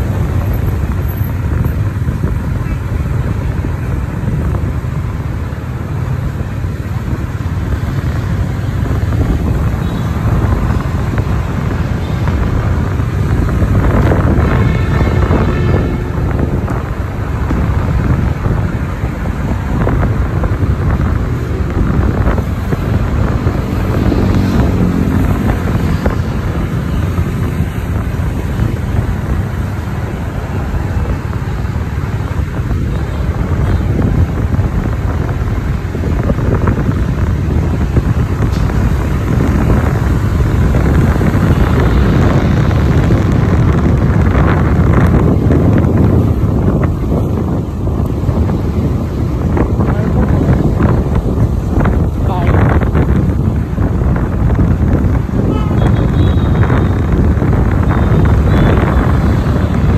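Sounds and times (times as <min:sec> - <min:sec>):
moving vehicle rumble: 0:00.0 - 0:59.9
wind buffeting microphone: 0:00.0 - 0:59.9.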